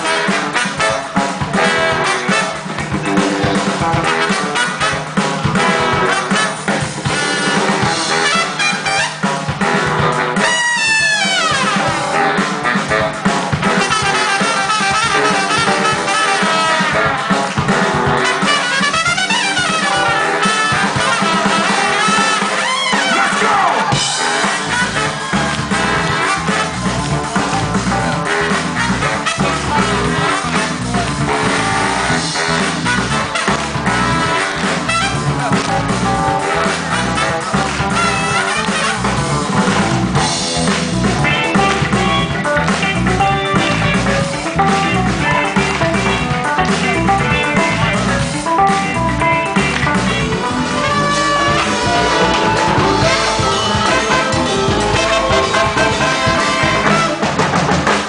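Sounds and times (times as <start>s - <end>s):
brass horn lines: 0.0s - 27.4s, 28.0s - 40.3s, 50.2s - 57.5s
drums and percussion rhythm: 0.0s - 58.0s.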